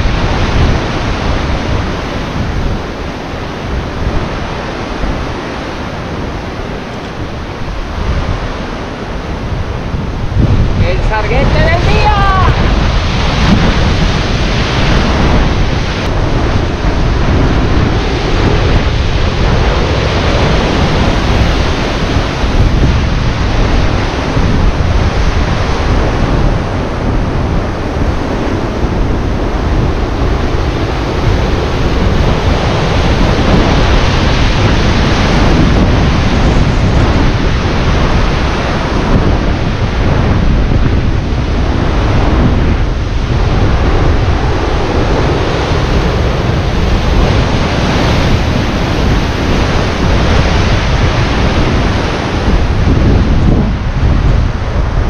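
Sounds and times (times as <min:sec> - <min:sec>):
sea waves breaking on rocks: 0:00.0 - 0:55.0
wind buffeting microphone: 0:00.0 - 0:55.0.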